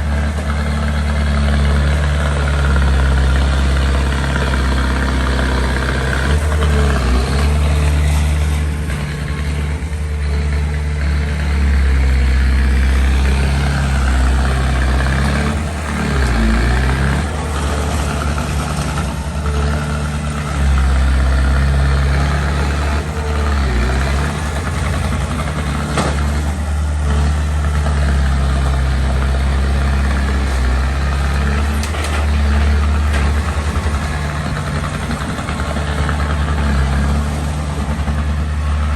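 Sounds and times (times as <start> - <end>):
bulldozer diesel engine: 0.0 - 38.9.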